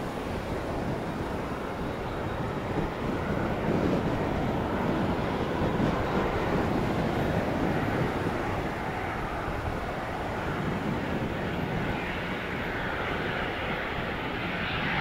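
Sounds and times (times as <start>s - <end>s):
turboprop engines droning: 0.0s - 15.0s
wind on microphone: 0.0s - 15.0s.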